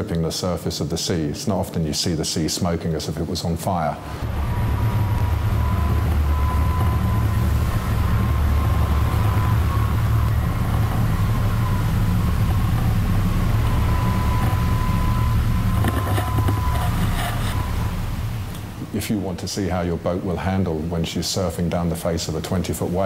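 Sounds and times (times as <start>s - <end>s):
boat engines droning: 3.3s - 23.0s.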